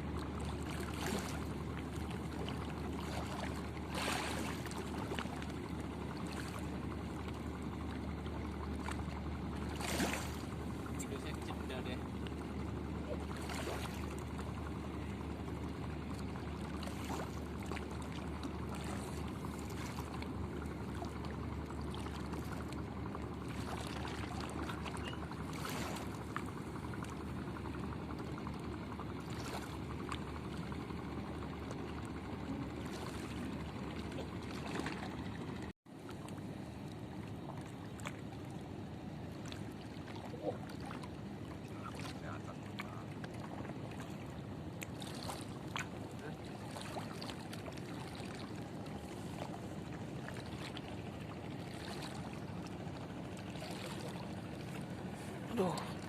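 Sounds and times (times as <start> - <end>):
water lapping against boat: 0.0 - 56.0.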